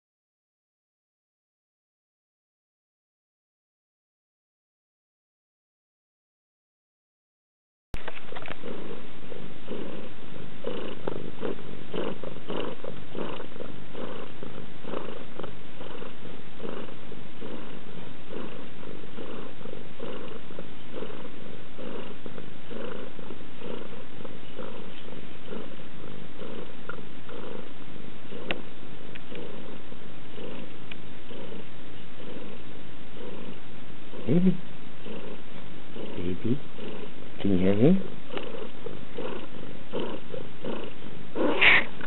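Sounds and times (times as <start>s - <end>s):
cat purring: 8.0s - 42.0s.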